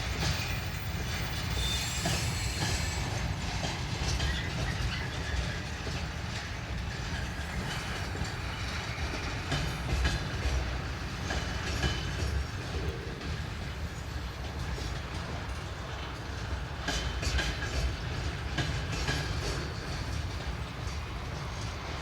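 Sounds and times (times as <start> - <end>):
low rumble of train wagons: 0.0 - 22.0
train wheels clacking on rail joints: 0.0 - 22.0.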